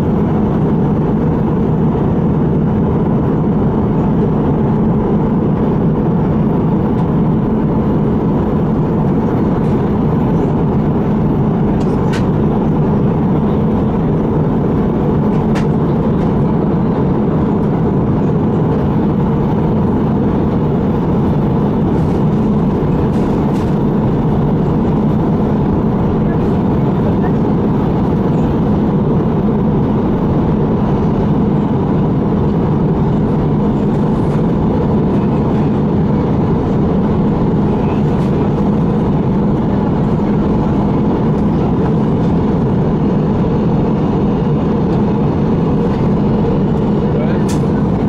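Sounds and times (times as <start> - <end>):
jet engines humming: 0.0 - 48.0.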